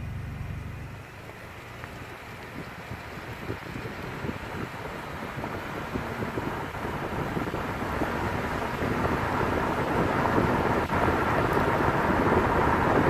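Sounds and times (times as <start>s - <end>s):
heavy rain: 0.9s - 13.0s.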